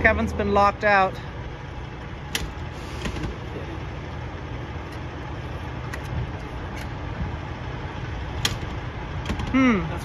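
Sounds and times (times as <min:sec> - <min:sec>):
diesel truck engines idling: 0:00.0 - 0:10.0.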